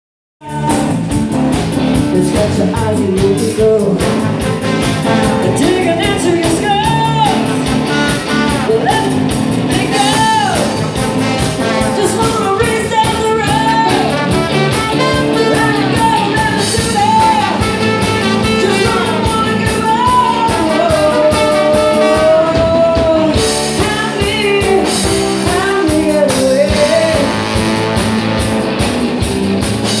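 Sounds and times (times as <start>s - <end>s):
person singing: 0.4s - 1.3s, 2.0s - 11.0s, 11.6s - 27.9s
drums: 0.4s - 30.0s
electric guitar: 0.4s - 30.0s
keyboard: 0.4s - 30.0s
trombone: 3.8s - 24.0s, 24.8s - 29.0s.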